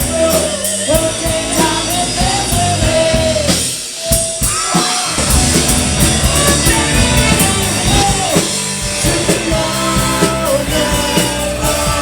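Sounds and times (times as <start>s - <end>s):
drum kit: 0.0s - 12.0s
rock band playing: 0.0s - 12.0s.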